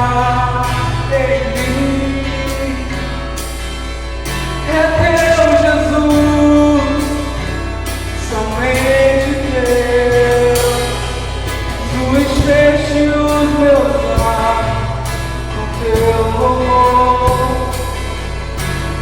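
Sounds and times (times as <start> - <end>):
person singing: 0.0 - 3.6, 4.6 - 19.0
acoustic guitar: 0.0 - 19.0.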